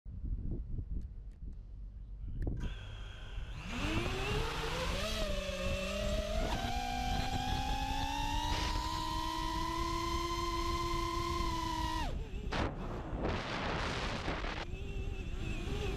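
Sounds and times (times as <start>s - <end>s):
drone motors whining: 2.6s - 15.9s.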